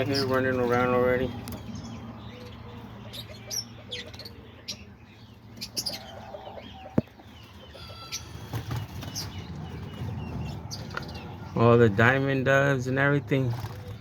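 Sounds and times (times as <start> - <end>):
aviary birds chirping and calling: 0.0 - 14.0.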